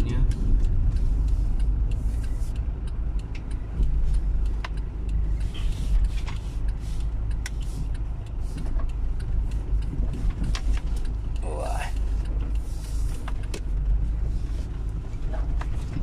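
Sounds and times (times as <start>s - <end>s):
vehicle rumbling on stony road: 0.0s - 16.0s.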